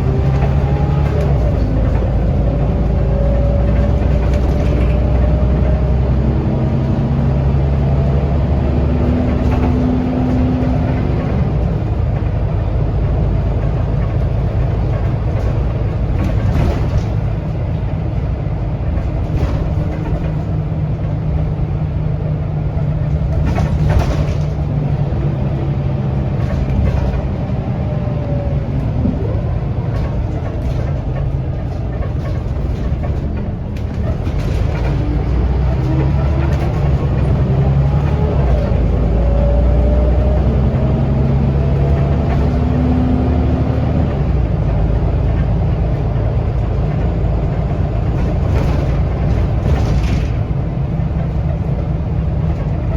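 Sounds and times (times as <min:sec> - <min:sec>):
bus engine droning: 0:00.0 - 0:52.9
bus rattles: 0:00.0 - 0:52.9.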